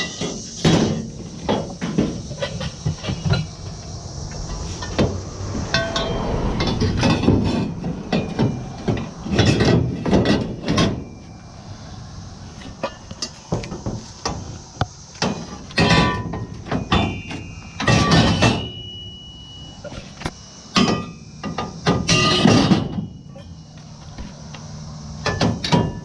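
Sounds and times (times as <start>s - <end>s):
scrap metal clanking and banging: 0.0s - 11.4s, 12.4s - 14.5s, 15.2s - 18.8s, 19.8s - 23.6s.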